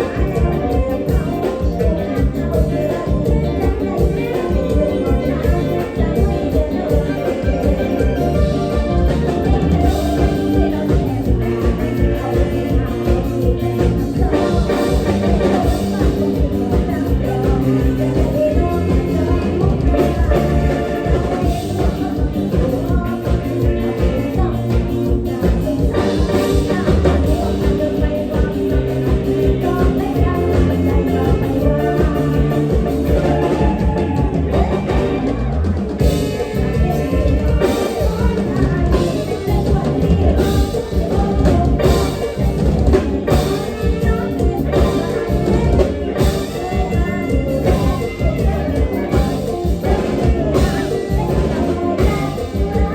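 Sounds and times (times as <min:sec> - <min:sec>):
drum kit beat: 0:00.0 - 0:52.9
live band playing: 0:00.0 - 0:52.9
person singing: 0:00.0 - 0:52.9.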